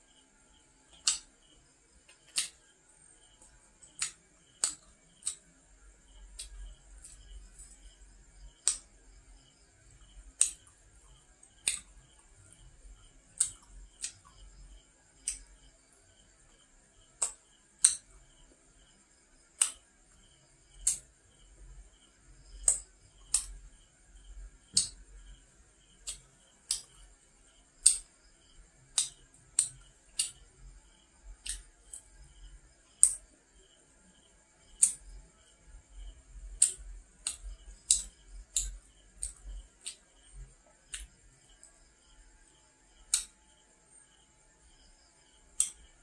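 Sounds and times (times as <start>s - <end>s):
faint high-pitched whine: 0.0s - 46.0s.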